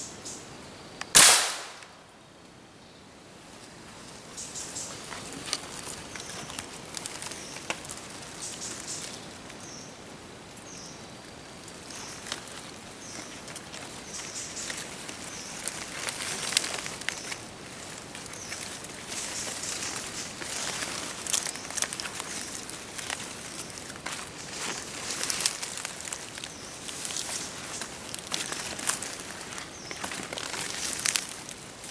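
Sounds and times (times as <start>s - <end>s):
sharp crackles: 1.0s - 2.1s, 4.3s - 9.9s, 10.6s - 31.9s
footsteps through leaves: 4.0s - 9.6s, 11.5s - 31.9s.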